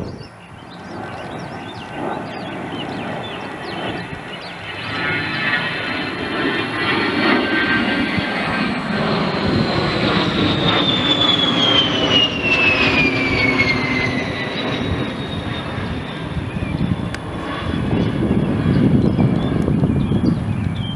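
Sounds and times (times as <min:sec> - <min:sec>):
jet aircraft passing by: 0:00.0 - 0:20.9.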